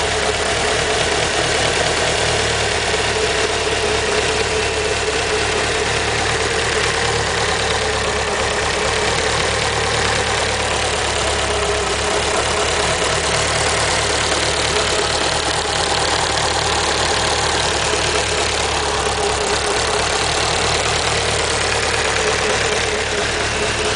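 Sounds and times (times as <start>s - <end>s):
engine idling with fast ticking: 0.0s - 23.9s.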